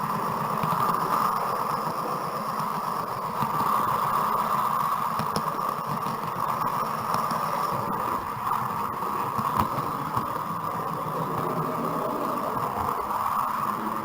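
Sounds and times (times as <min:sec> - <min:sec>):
electric fans whirring: 0:00.0 - 0:14.0
model train rumbling on track: 0:00.0 - 0:14.0.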